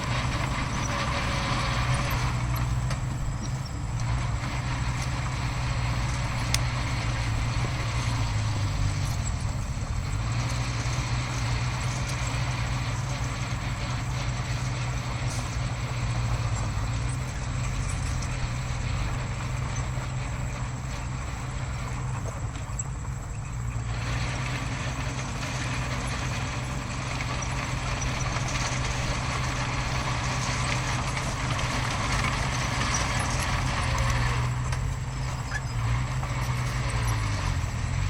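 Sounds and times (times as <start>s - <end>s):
heavy machinery diesel engine running: 0.0s - 38.0s.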